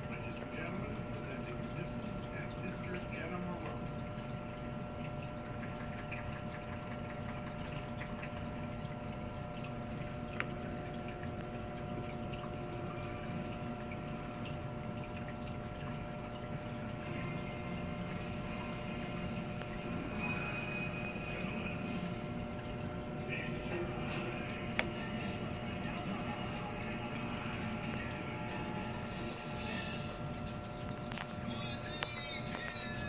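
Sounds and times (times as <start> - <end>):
aquarium filter motor hum: 0.0 - 33.0
moving water: 0.0 - 33.0.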